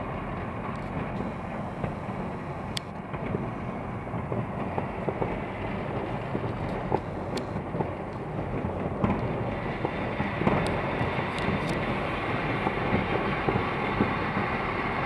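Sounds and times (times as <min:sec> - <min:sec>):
fireworks crackling: 0:00.0 - 0:15.0
sharp firework bangs: 0:00.9 - 0:15.0.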